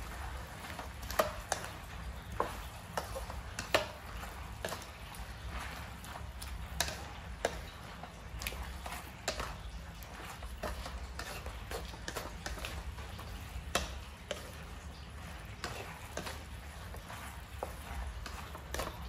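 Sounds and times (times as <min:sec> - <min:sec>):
wooden spatula scraping metal wok: 0:00.0 - 0:19.0.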